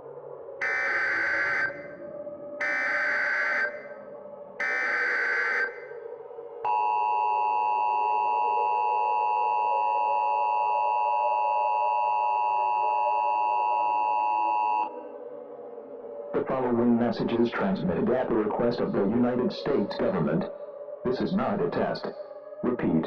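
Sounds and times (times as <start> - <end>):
low background drone: 0.0 - 23.0.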